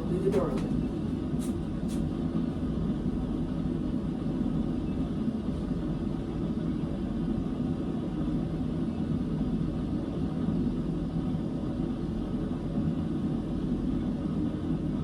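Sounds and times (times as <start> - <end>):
low machinery rumble: 0.0 - 15.0.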